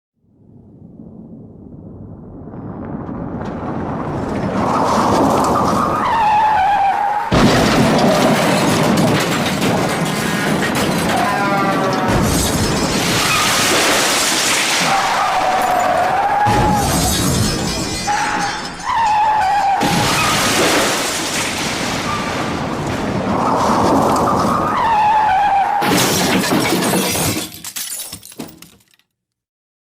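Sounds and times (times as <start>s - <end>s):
car crashing: 2.7s - 29.0s
clattering debris: 2.8s - 29.1s.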